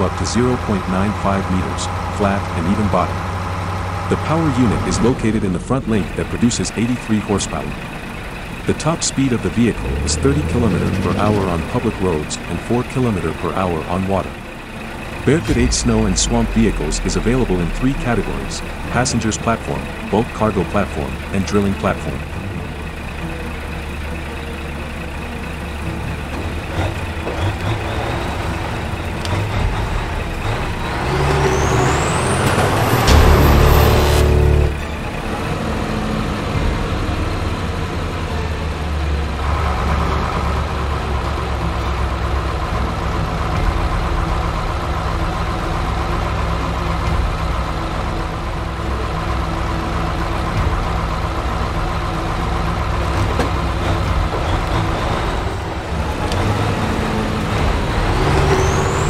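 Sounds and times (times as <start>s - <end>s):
vehicle engine running under load: 0.0s - 59.0s.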